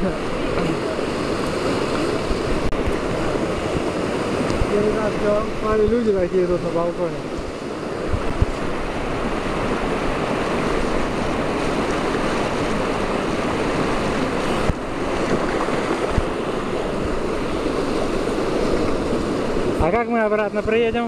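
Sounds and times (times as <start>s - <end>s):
river rapids rushing: 0.0s - 20.8s.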